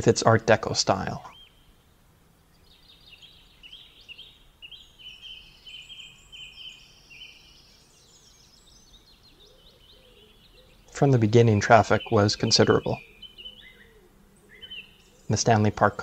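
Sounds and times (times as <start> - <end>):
faint steady background noise: 0.0 - 16.0
small birds chirping: 0.0 - 16.0.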